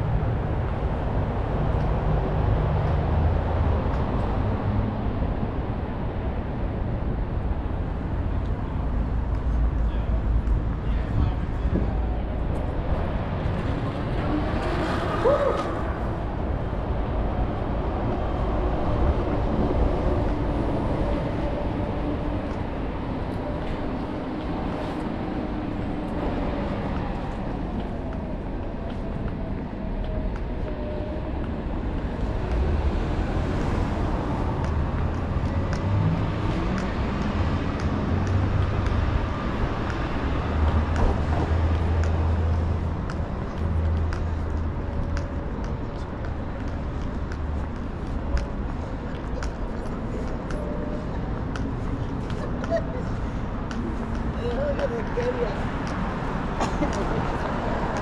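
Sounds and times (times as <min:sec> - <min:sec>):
road noise: 0:00.0 - 0:58.0
street traffic rumble: 0:00.0 - 0:58.0
vehicle engines humming: 0:00.0 - 0:58.0.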